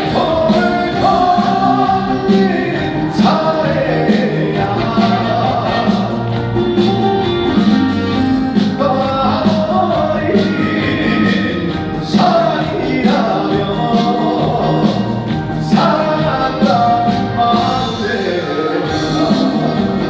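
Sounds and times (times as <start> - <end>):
band playing live music: 0.0 - 20.0
person singing: 0.0 - 20.0.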